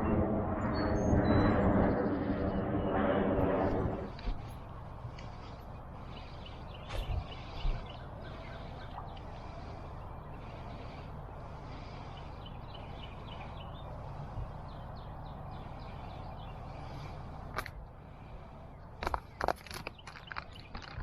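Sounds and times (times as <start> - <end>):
birds chirping: 0.0 - 21.0
low background rumble: 0.0 - 21.0.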